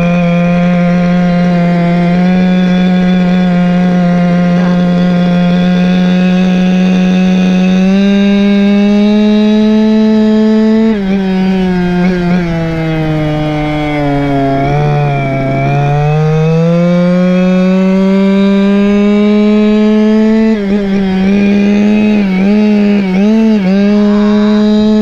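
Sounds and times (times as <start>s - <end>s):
scooter two-stroke engine running: 0.0s - 25.0s.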